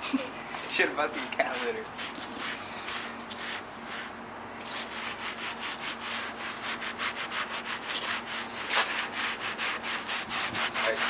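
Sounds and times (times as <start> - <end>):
rag scrubbing the ground: 0.6 - 11.0.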